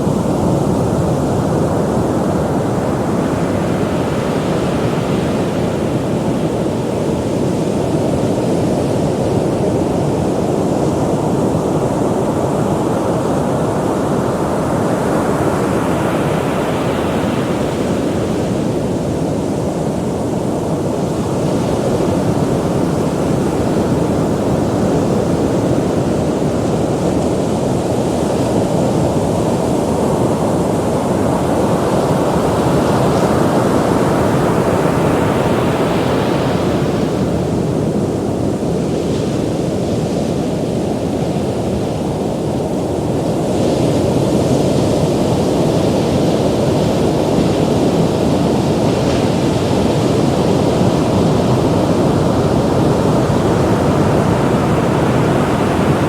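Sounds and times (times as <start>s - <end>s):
wind on microphone: 0.0s - 56.0s
waves breaking: 8.6s - 56.0s.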